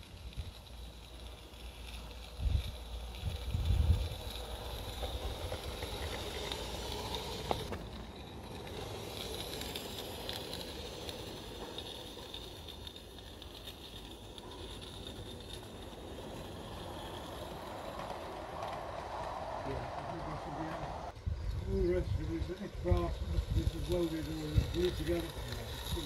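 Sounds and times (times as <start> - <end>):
small steam locomotive running: 0.0 - 26.0.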